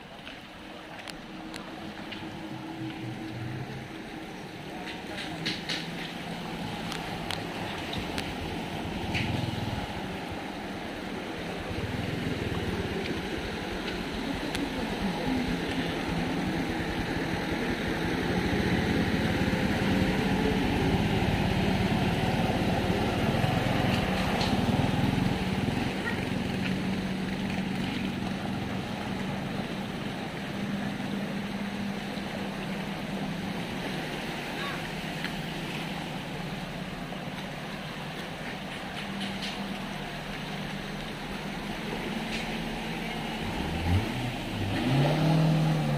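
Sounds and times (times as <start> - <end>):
car engines running: 0.0 - 45.9
water churned by wheels: 0.0 - 45.9.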